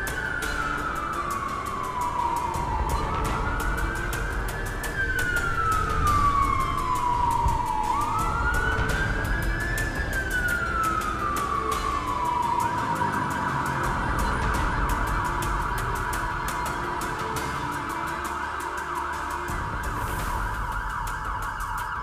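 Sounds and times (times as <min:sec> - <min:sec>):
ambulance siren wailing: 0:00.0 - 0:22.0
low traffic rumble: 0:00.0 - 0:22.0.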